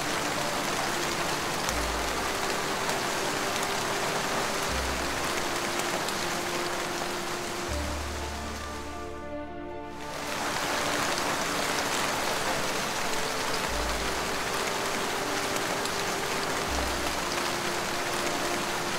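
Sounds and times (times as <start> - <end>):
faint ambient music tone: 0.0 - 18.9
rain-like water hiss: 0.0 - 18.9.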